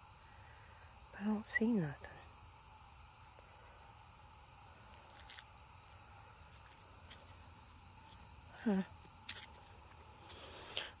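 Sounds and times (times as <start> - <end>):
crickets and night insects trilling: 0.0 - 11.0.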